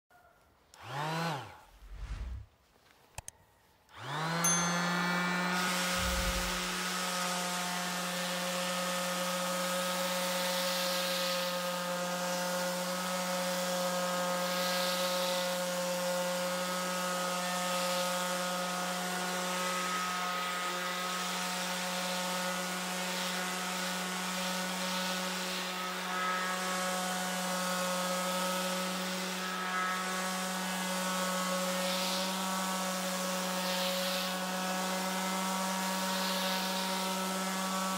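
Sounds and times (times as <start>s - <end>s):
electric sander hum: 0.8s - 2.4s, 4.0s - 37.9s
sandpaper hissing on wood: 5.2s - 7.1s, 8.3s - 37.9s.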